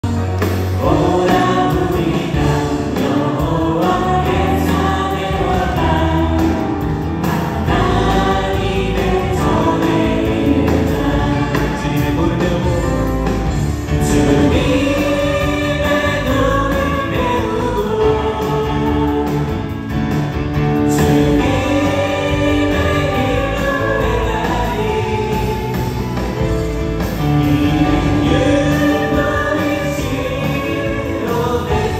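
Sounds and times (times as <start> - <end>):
band with keyboard guitars and drums: 0.0 - 31.9
group singing worship music: 0.0 - 31.9.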